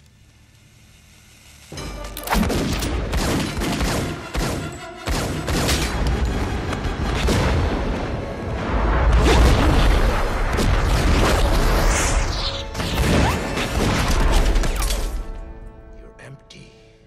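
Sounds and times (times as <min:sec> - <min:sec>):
film score music: 0:01.7 - 0:17.0.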